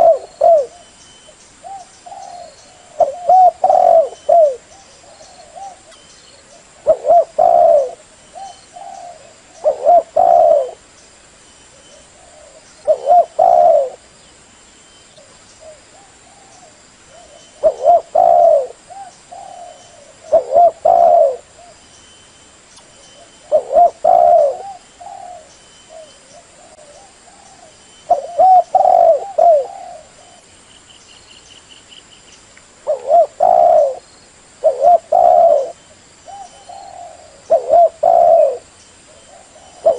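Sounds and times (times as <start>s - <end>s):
dove cooing: 0.0s - 0.9s, 1.6s - 10.8s, 11.7s - 14.1s, 15.2s - 21.8s, 23.0s - 30.5s, 32.8s - 39.9s.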